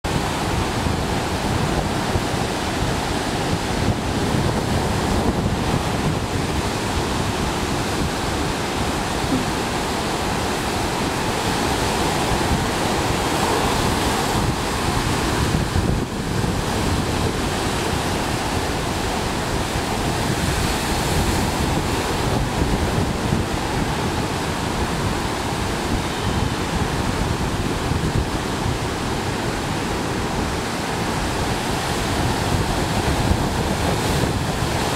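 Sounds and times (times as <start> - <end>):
ocean surf breaking: 0.1 - 34.9
wind buffeting microphone: 0.1 - 34.9.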